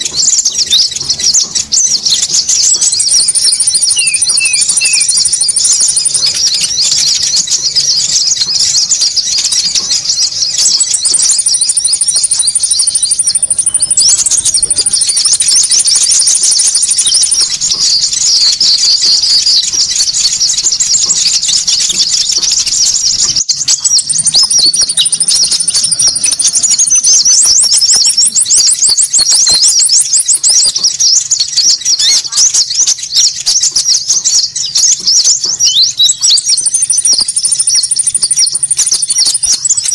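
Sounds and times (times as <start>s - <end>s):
rapid high-pitched bird chirps: 0.0s - 39.9s.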